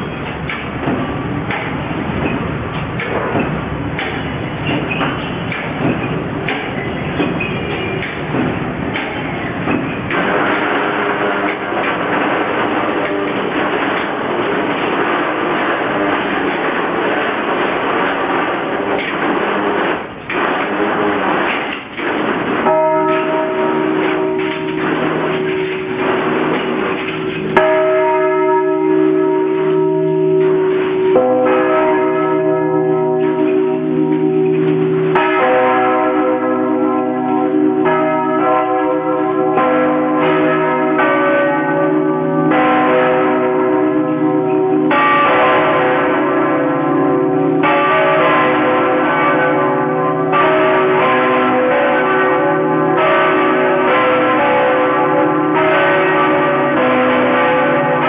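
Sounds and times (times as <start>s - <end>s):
church bells ringing a peal: 5.6s - 58.0s.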